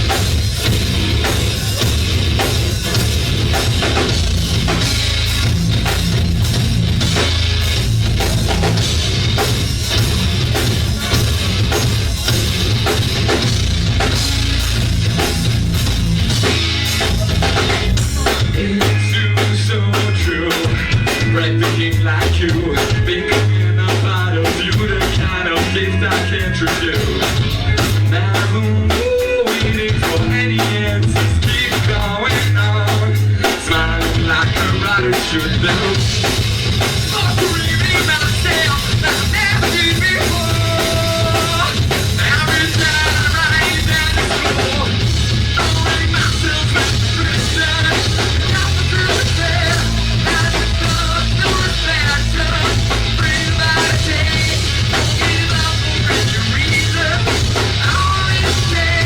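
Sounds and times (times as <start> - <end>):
bass line: 0.0 - 59.0
drum kit: 0.0 - 59.0
rock band playing loudly: 0.0 - 59.0.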